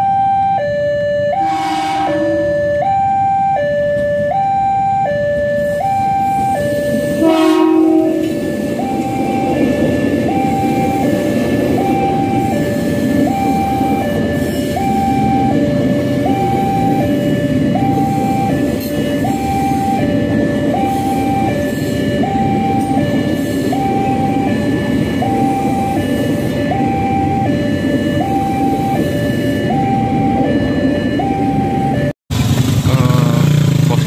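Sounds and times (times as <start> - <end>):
two-tone warning alarm: 0.0 - 32.2
train rumbling on tracks: 0.0 - 34.0.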